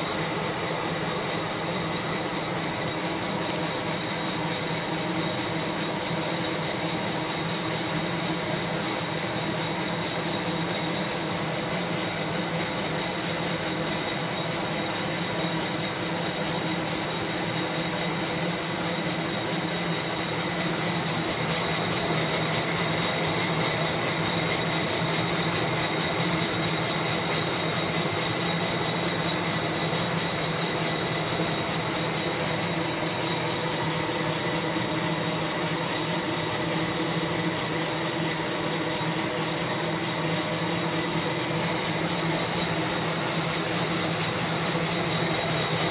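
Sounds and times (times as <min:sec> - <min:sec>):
coffee roaster whirring: 0:00.0 - 0:45.9.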